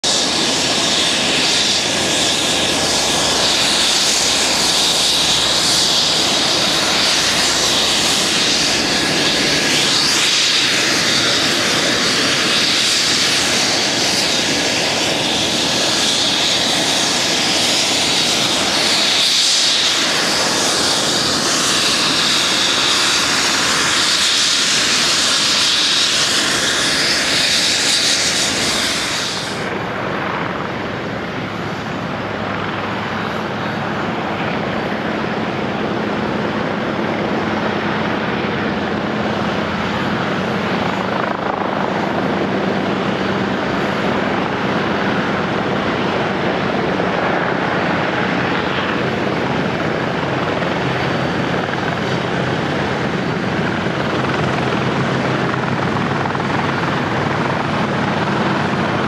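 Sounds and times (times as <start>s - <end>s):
propeller plane engines running: 0.0s - 59.0s.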